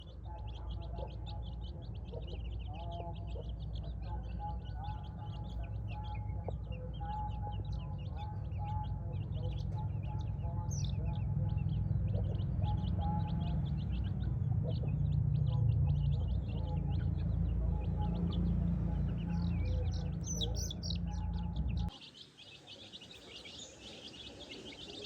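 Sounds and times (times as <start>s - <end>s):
steady low rumble: 0.0s - 21.9s
baby chicks peeping: 0.0s - 25.0s.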